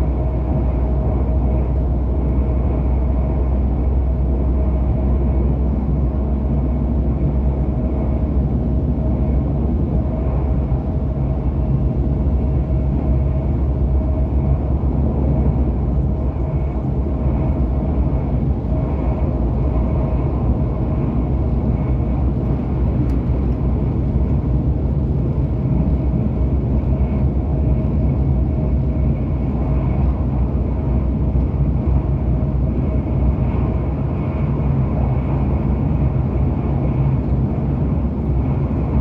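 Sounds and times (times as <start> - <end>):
train low rumble: 0.0 - 39.0.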